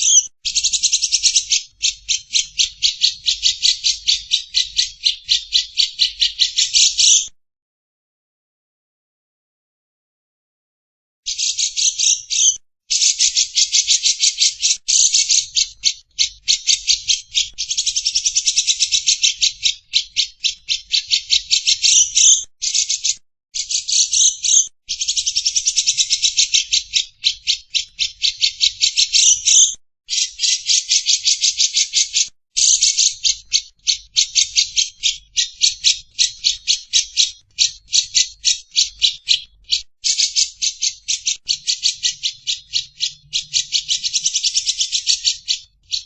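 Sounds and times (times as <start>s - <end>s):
lovebird chattering: 0.0s - 7.3s, 11.3s - 46.0s.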